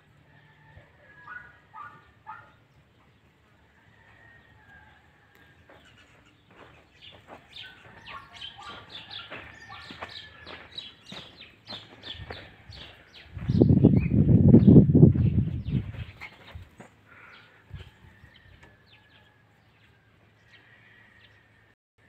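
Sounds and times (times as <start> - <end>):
birds chirping: 1.2 - 21.5.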